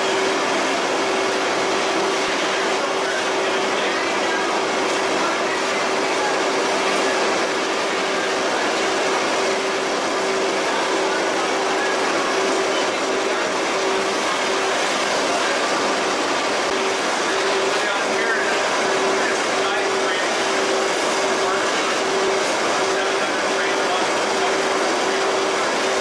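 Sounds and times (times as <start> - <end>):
machinery roar and hum: 0.0 - 26.0.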